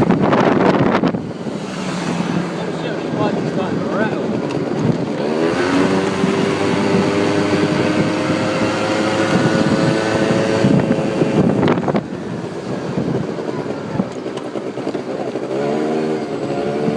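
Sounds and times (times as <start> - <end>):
quad bike engine: 0.0 - 16.9.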